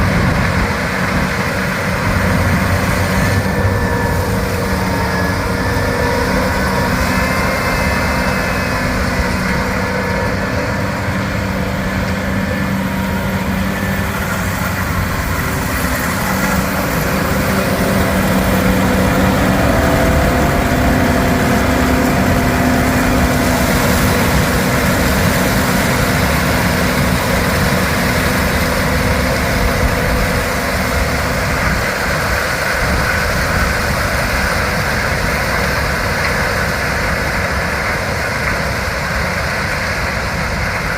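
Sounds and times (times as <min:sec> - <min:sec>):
diesel engine running under load: 0:00.0 - 0:40.9
machine hums and whines: 0:00.0 - 0:40.9.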